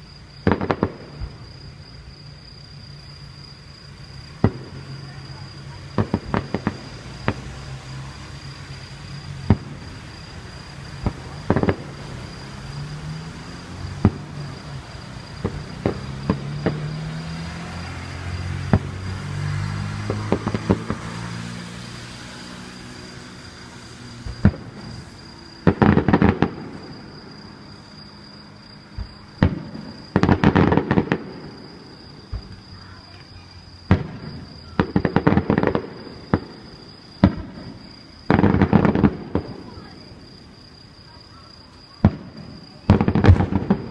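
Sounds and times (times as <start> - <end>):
firework bangs: 0.0 - 43.9
fireworks crackling: 0.0 - 43.9.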